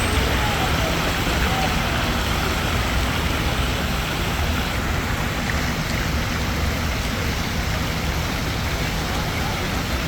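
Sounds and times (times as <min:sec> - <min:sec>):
water fountain splashing: 0:00.0 - 0:10.0.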